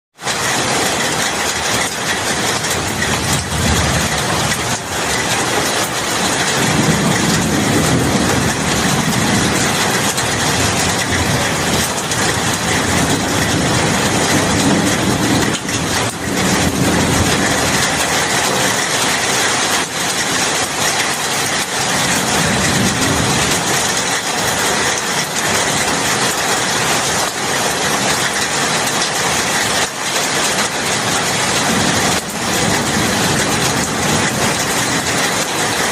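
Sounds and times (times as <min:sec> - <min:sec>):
heavy rain falling: 0:00.2 - 0:35.9.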